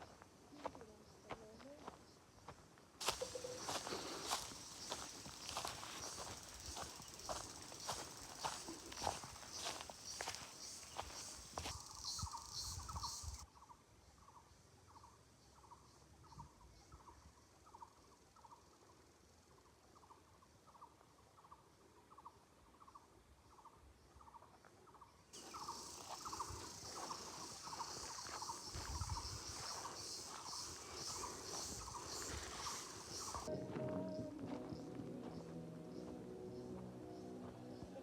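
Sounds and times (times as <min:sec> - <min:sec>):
insect-like chirring chorus: 0:03.0 - 0:33.5.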